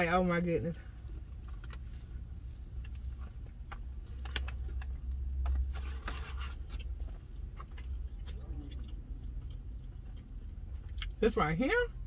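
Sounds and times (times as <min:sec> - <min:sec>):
chewing with wet crunches: 0:01.0 - 0:11.3.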